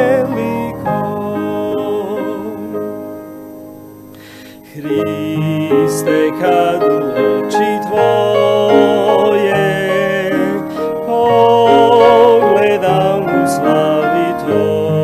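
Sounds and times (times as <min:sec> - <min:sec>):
hymn singing: 0:00.0 - 0:15.0
piano accompaniment: 0:00.0 - 0:15.0.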